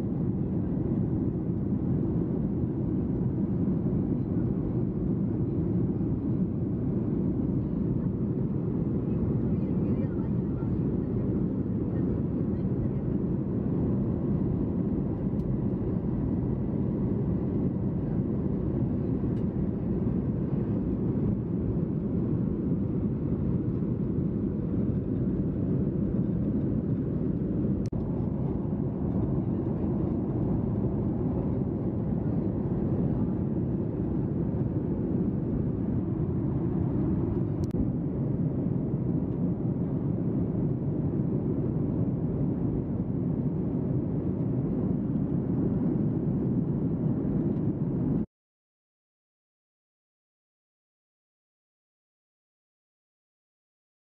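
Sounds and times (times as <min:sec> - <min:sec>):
jet engine and airflow rush: 0:00.0 - 0:48.3.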